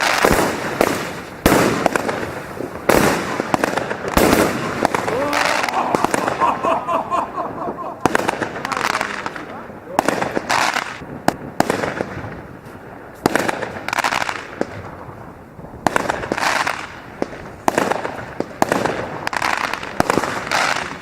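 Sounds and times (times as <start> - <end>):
firework battery bangs and bursts: 0.0 - 6.8, 7.5 - 21.0.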